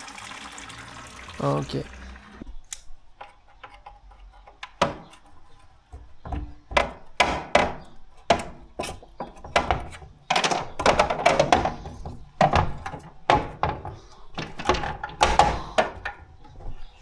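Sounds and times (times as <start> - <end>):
hand tools knocking and clanking: 2.5 - 17.0.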